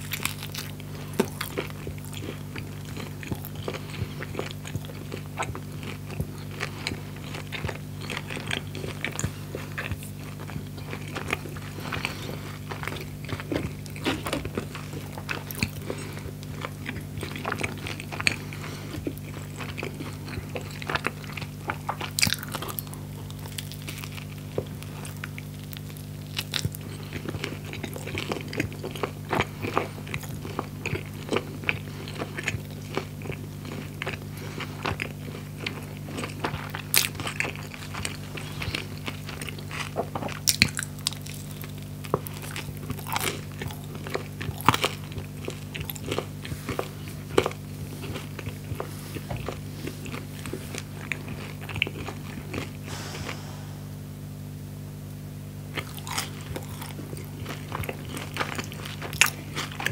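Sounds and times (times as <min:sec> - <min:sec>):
crunchy chewing: 0:00.0 - 0:53.7, 0:55.7 - 0:59.9
steady low hum: 0:00.0 - 0:59.9.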